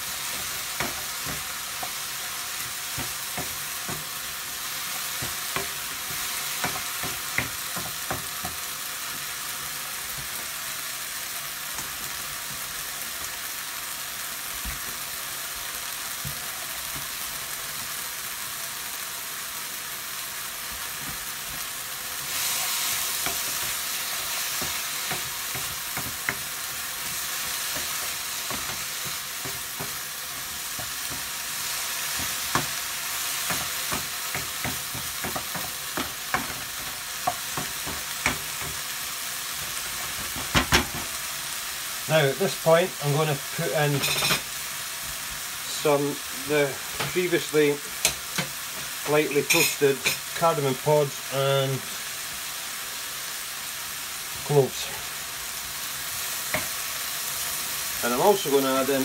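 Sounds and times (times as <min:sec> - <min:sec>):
vegetables sizzling in frying pan: 0:00.0 - 0:59.0.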